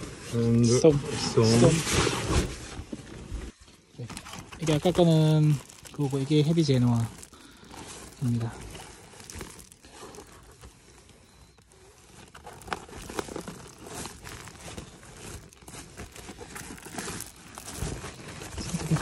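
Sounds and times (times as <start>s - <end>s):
plastic bags crinkling: 3.7s - 19.0s.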